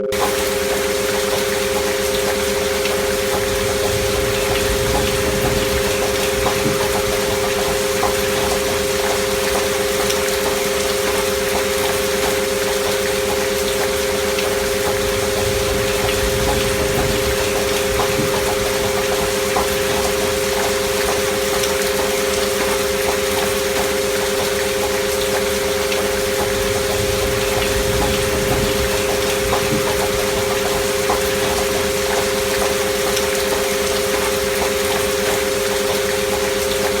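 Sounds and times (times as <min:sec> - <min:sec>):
gentle rain hiss: 0:00.0 - 0:37.0
two steady sine tones: 0:00.0 - 0:37.0.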